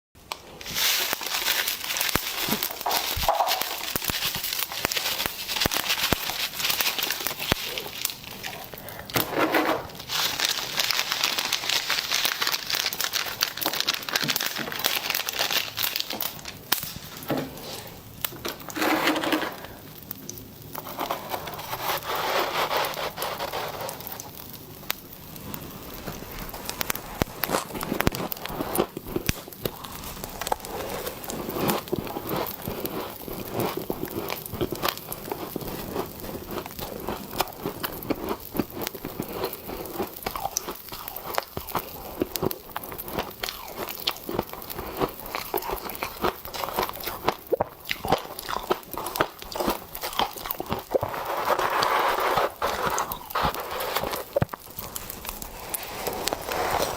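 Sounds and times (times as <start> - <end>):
frost crunching as chewed: 0.4 - 56.9.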